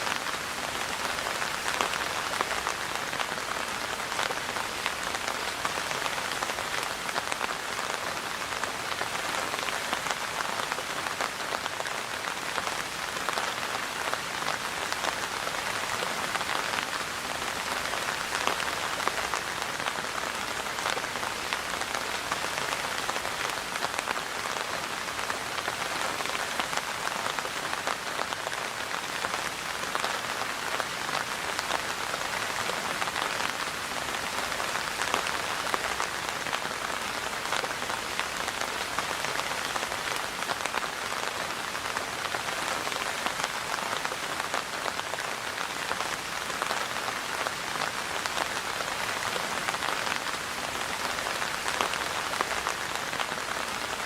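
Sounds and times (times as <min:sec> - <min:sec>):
steady rain on a surface: 0:00.0 - 0:54.0.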